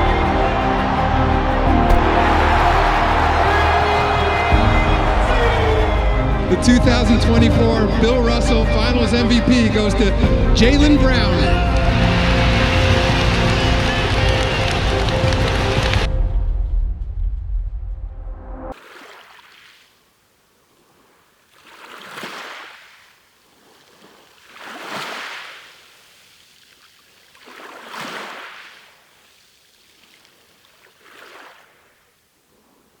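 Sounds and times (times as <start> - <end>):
water rushing in waves: 0.0 - 16.1, 20.8 - 32.0.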